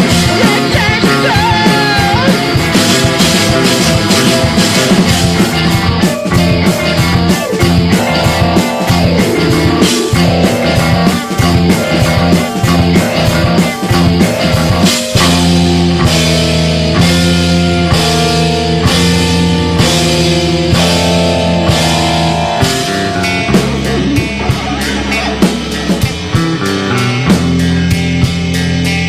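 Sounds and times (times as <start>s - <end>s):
drum kit: 0.0s - 29.0s
electric guitar chords: 0.0s - 29.0s.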